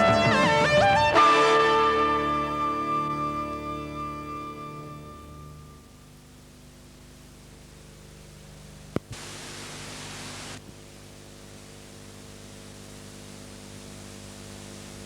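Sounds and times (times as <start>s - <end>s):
loud static hiss: 0.0s - 15.0s
tape playback hiss and hum: 0.0s - 15.0s.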